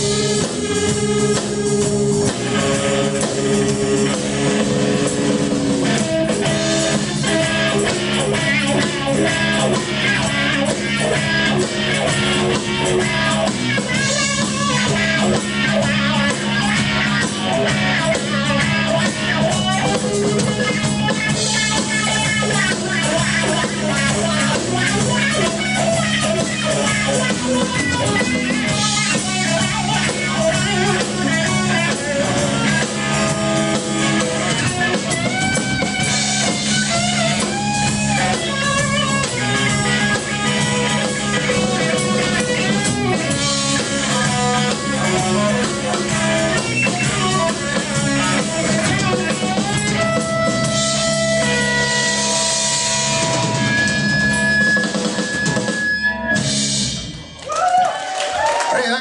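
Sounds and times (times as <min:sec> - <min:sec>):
bass guitar: 0:00.0 - 0:58.7
drums: 0:00.0 - 0:59.0
electric guitar soloing: 0:00.0 - 0:59.0.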